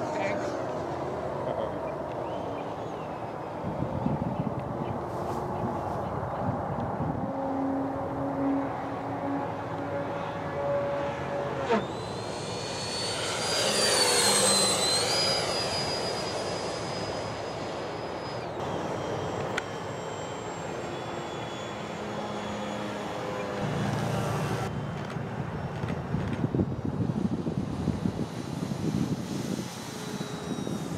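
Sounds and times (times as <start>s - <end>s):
high-pitched jet fan whine: 0.0s - 30.9s.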